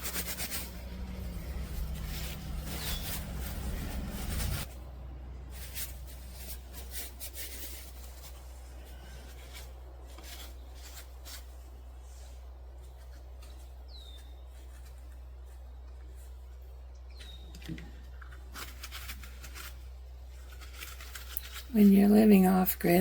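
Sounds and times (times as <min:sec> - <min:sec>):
low hum: 0:00.0 - 0:20.8
rubbing and scraping: 0:00.0 - 0:23.0.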